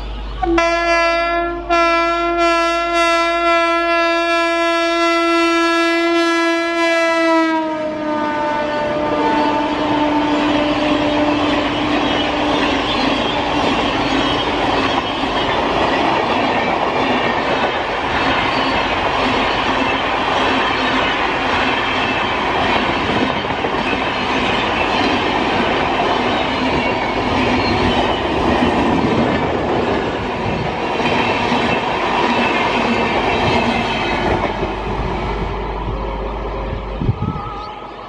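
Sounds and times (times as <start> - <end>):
train passing at high speed: 0.0 - 38.0.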